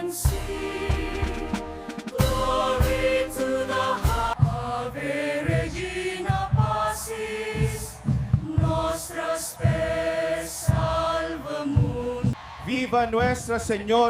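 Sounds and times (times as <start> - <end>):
choir singing a hymn: 0.0 - 12.5
low drum beat: 0.2 - 12.4.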